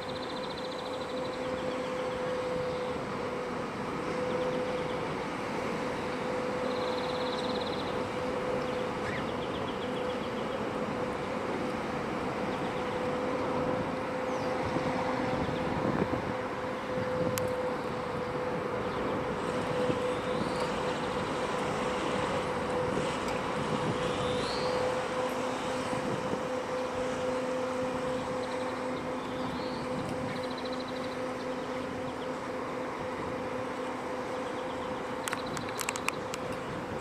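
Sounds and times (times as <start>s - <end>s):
ship machinery hum: 0.0s - 37.0s.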